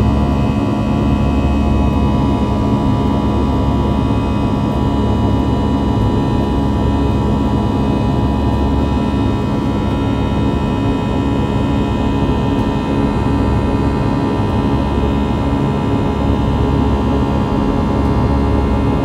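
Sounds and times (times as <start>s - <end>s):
jet engines droning in cabin: 0.0s - 19.0s.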